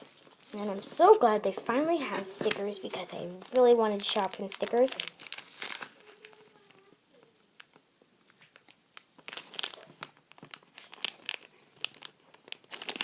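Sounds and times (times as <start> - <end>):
plastic packet crinkling: 2.0 - 13.0.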